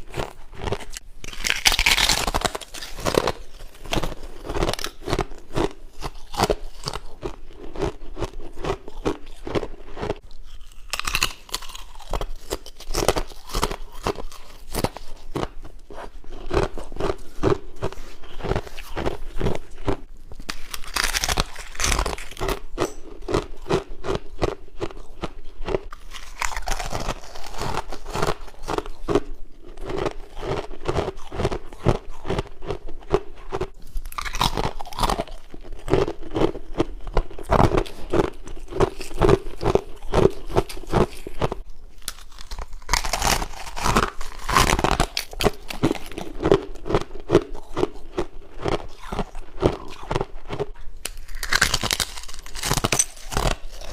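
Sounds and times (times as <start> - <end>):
person chewing crunchy ice: 0.0 - 53.9.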